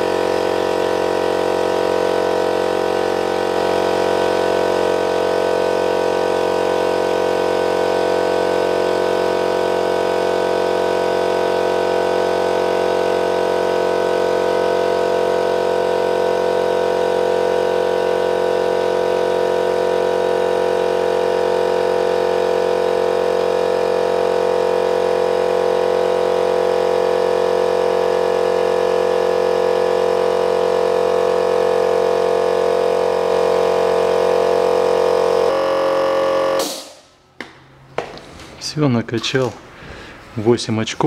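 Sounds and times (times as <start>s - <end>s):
piston air compressor running: 0.0s - 38.5s.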